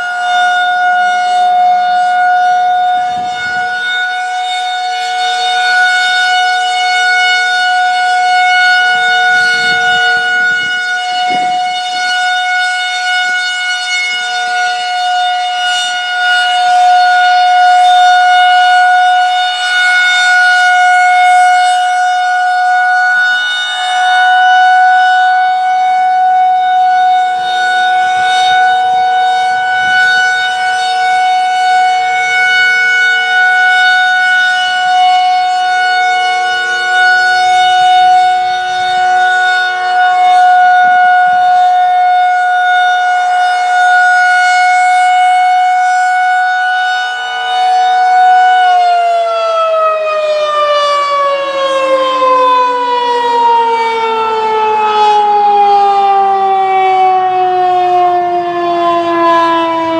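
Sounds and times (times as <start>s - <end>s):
rotating tornado siren: 0.0s - 59.9s.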